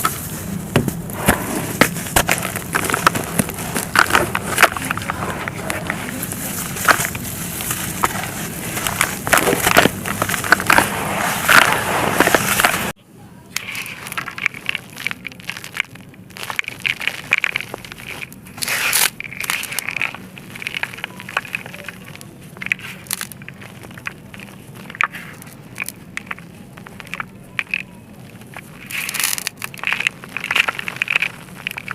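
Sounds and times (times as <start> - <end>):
brittle chunks crumbling and crackling: 0.0 - 31.9.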